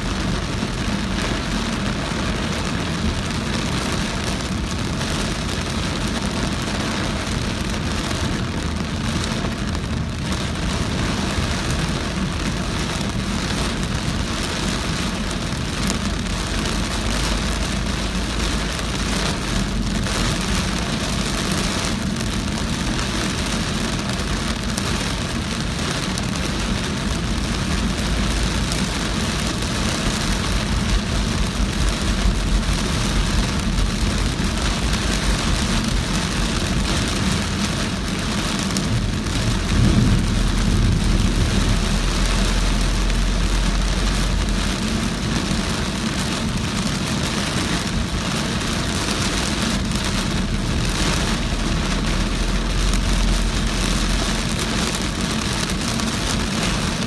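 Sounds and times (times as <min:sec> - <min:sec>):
car tyres rumbling on wet road: 0:00.0 - 0:57.0
heavy rain on a car: 0:00.0 - 0:57.0.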